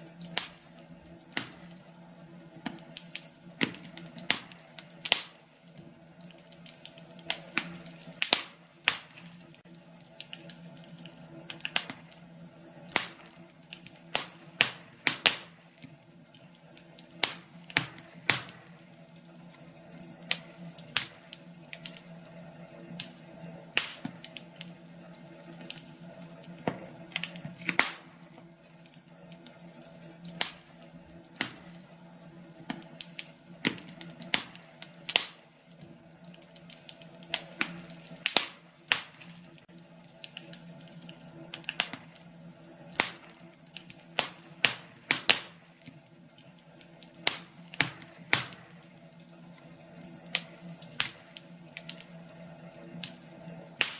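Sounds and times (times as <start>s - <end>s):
firewood crackling in fireplace: 0.0s - 53.9s.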